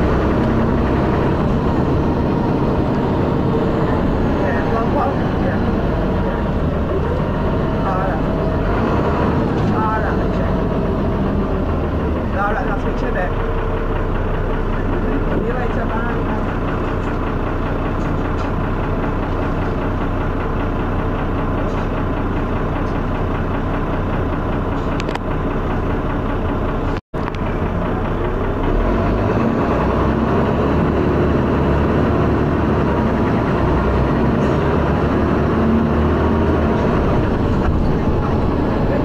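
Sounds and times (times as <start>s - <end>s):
bus engine knocking: 0.0s - 39.0s.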